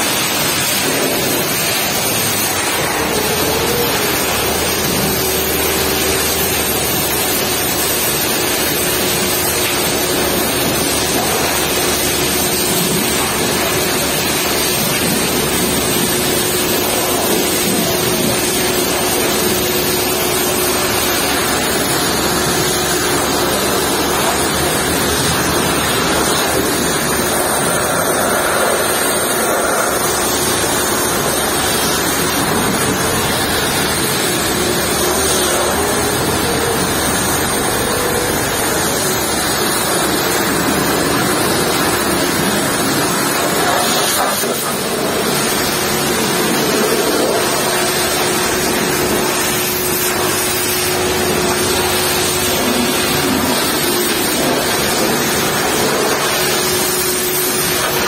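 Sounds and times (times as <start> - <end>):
pressure washer spraying water: 0.0 - 58.0.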